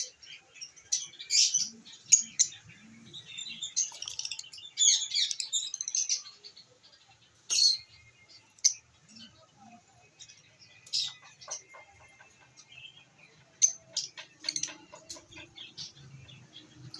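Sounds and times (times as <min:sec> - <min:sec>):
lovebirds chirping and chattering: 0:00.0 - 0:16.9.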